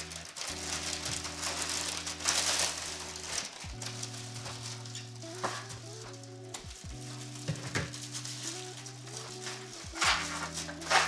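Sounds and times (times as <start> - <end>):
plastic and bubble wrap crinkling: 0.0 - 11.0
soft background music: 0.0 - 11.0.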